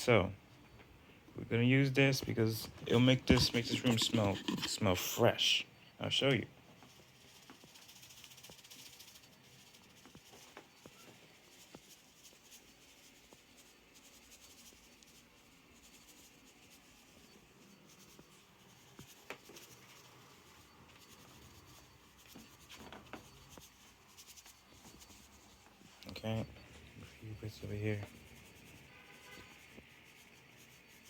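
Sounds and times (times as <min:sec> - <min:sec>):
scratchy powder rustling: 0:02.2 - 0:05.3, 0:06.8 - 0:31.0.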